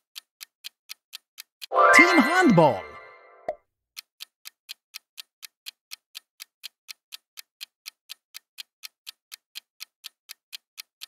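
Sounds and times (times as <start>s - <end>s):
clock ticking: 0.0s - 3.3s, 4.0s - 11.0s.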